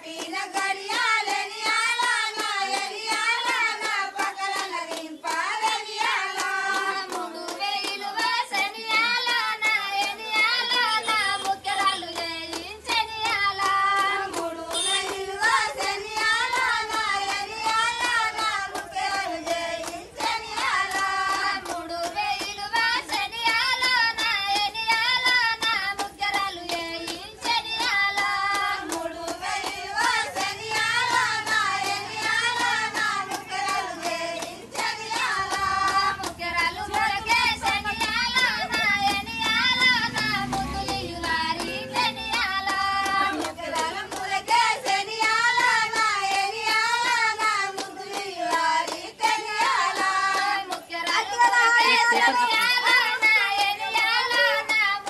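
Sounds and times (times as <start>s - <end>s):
hands clapping to a beat: 0.0s - 55.0s
women singing together: 0.0s - 55.0s.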